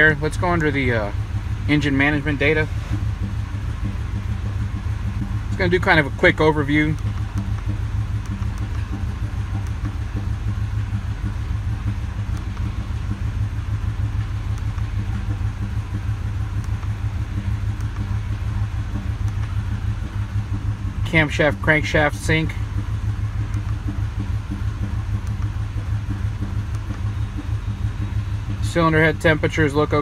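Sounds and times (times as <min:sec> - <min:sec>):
engine idling roughly with misfire: 0:00.0 - 0:30.0.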